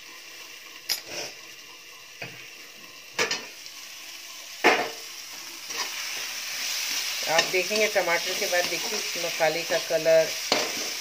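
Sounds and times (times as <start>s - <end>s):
faint frying sizzle: 0.0s - 11.0s.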